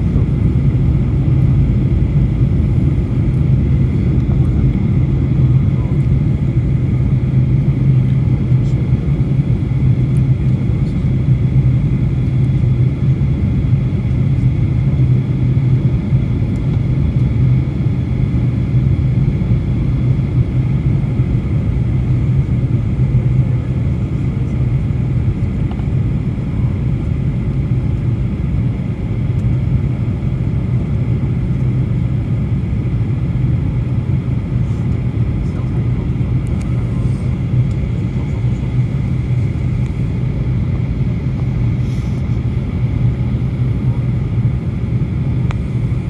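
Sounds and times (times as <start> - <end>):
airliner cabin drone: 0.0 - 46.0.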